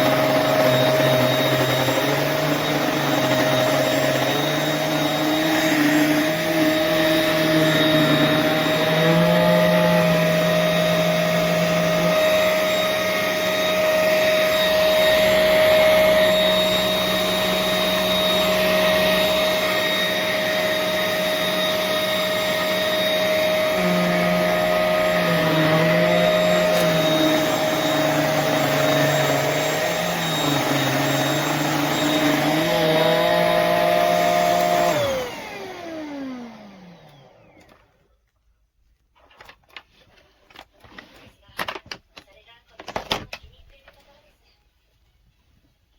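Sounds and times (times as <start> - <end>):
handheld cleaner motor whine: 0.0 - 37.9.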